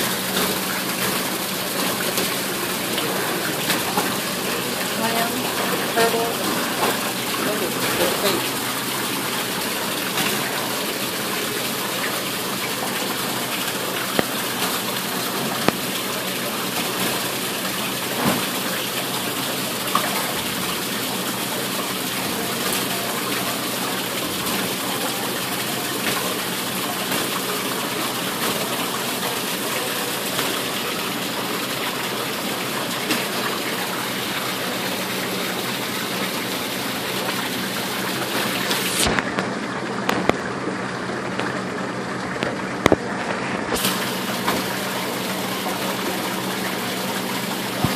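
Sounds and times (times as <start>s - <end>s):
fountain water splashing into pool: 0.0s - 47.9s.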